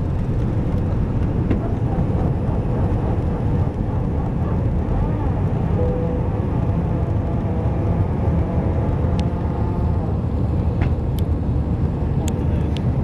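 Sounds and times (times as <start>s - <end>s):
airliner jet engines taking off: 0.0s - 13.0s.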